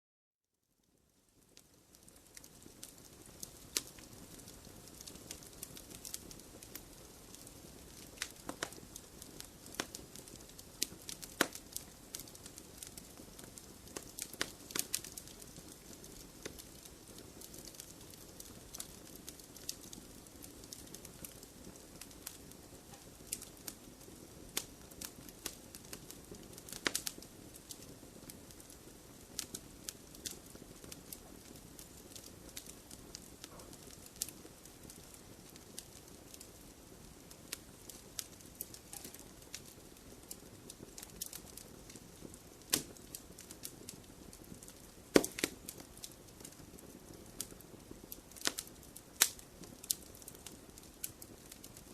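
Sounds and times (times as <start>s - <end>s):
low fire hiss: 0.6s - 51.9s
wood fire crackling and popping: 0.9s - 51.9s.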